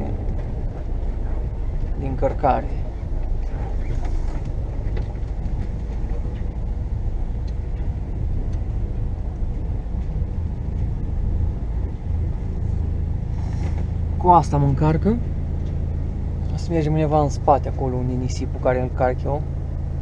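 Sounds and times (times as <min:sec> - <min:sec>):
truck diesel engine rumble: 0:00.0 - 0:20.0.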